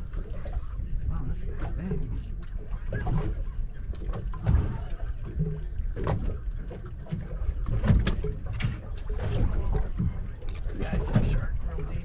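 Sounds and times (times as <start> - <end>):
water splashes: 0.0 - 12.0
wind and water rumble: 0.0 - 12.0.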